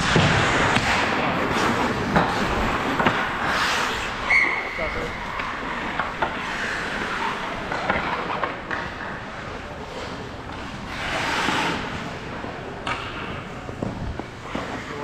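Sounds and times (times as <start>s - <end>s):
skate blades scraping ice: 0.0s - 12.6s.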